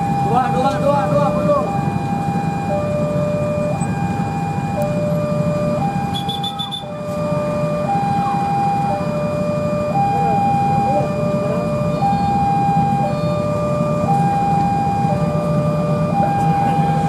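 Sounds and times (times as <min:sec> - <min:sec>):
diesel locomotive rumble: 0:00.0 - 0:17.0
two-tone crossing alarm: 0:00.0 - 0:17.0.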